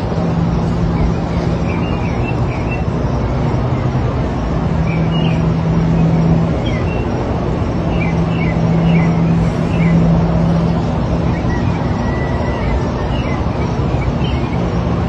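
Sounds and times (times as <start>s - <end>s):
outdoor rumble: 0.0s - 15.0s.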